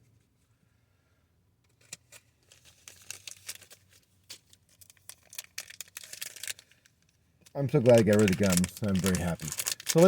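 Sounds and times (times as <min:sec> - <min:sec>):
cards crinkling and rustling: 0:01.7 - 0:10.0.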